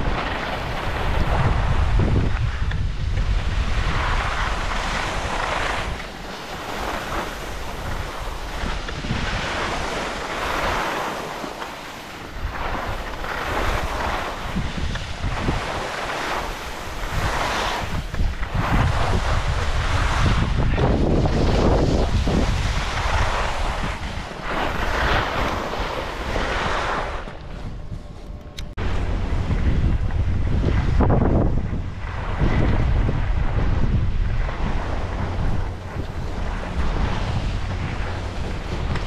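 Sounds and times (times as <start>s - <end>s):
skis scraping on packed snow: 0.0s - 31.4s, 32.0s - 39.0s
wind rumble on microphone: 0.0s - 39.0s.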